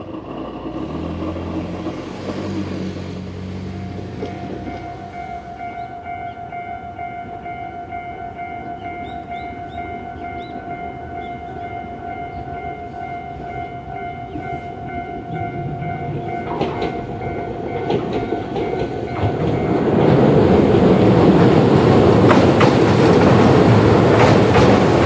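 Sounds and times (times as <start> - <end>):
electric train rumbling: 0.0 - 25.0
wheels clicking over rail joints: 0.0 - 25.0
level-crossing alarm ringing: 3.6 - 25.0.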